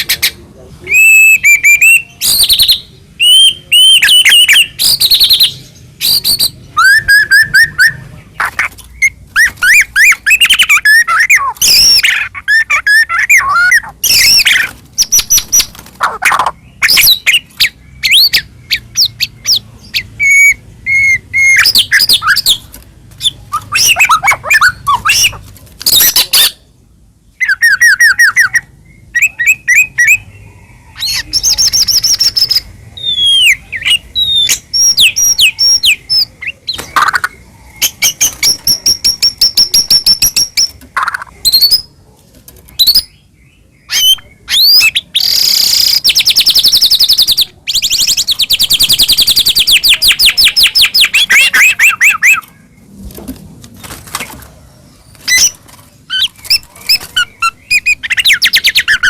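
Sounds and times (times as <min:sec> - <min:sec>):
bird singing whistles and trills: 0:00.8 - 0:08.0, 0:09.0 - 0:22.6, 0:23.2 - 0:26.6, 0:27.4 - 0:41.9, 0:43.8 - 0:52.5, 0:55.2 - 0:59.0.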